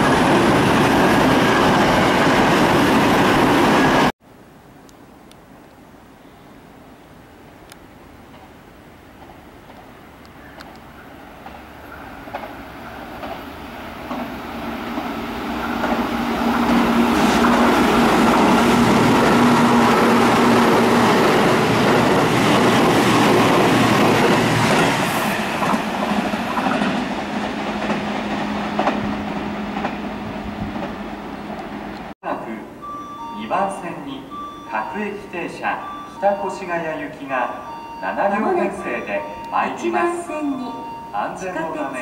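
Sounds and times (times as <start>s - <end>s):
electric train passing: 0.0s - 4.1s, 8.0s - 42.0s.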